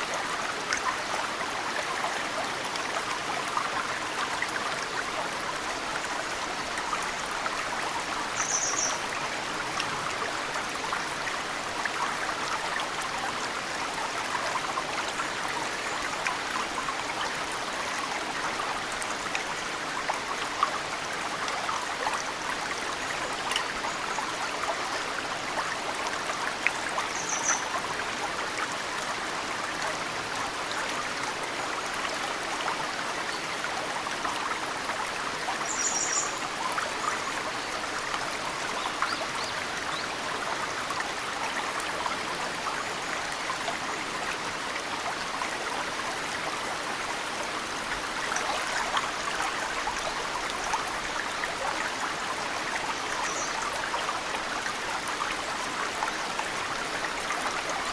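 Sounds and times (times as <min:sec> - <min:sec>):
mountain stream flowing: 0:00.0 - 0:57.9
water dripping into stream: 0:00.0 - 0:57.9.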